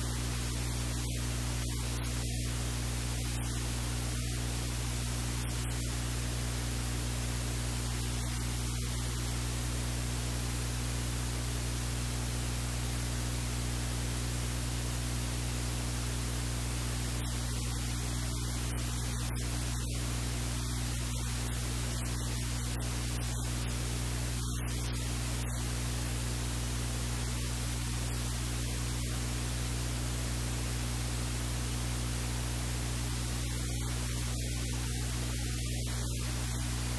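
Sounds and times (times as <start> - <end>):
low electrical hum: 0.0 - 36.9
static hiss: 0.0 - 36.9.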